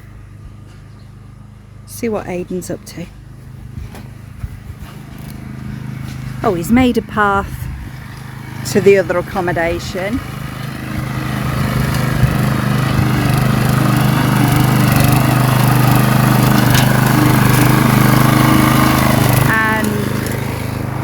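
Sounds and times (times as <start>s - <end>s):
grass cutter petrol engine: 2.9s - 21.0s.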